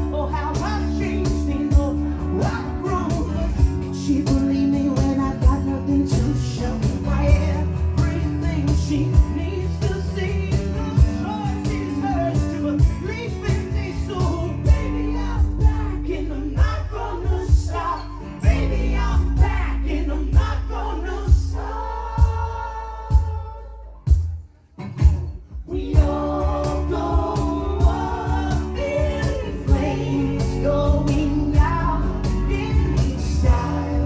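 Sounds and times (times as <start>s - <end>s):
high lead voice singing: 0.0s - 24.0s, 25.5s - 34.0s
low bass line: 0.0s - 24.4s, 25.0s - 34.0s
strummed guitars: 0.0s - 34.0s.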